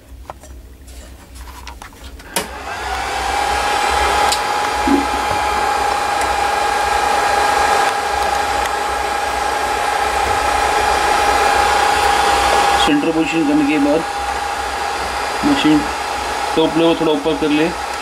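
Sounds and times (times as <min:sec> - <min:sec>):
hot-air blower running: 0:02.2 - 0:18.0.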